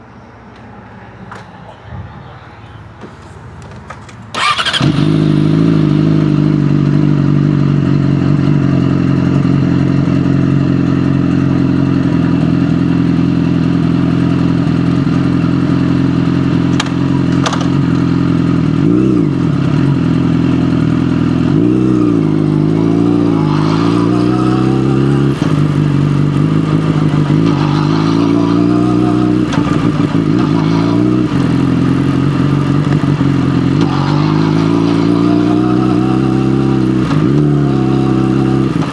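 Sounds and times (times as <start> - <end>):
motorcycle engine starting and idling: 3.0 - 38.9
motorcycle throttle blips: 3.0 - 38.9.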